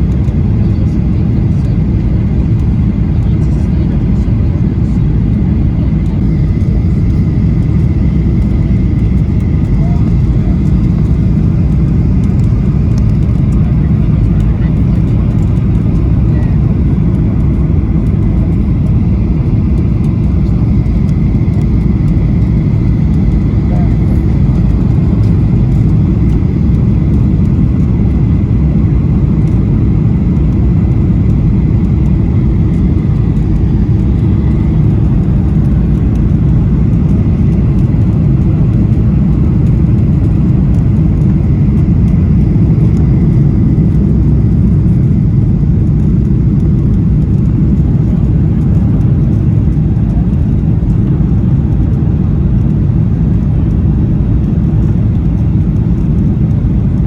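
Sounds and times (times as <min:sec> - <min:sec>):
jet cabin engine rumble: 0:00.0 - 0:57.0.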